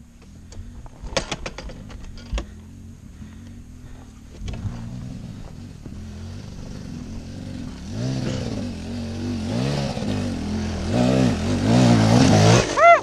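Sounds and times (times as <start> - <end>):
dirt bike engine revving: 2.4 - 13.0.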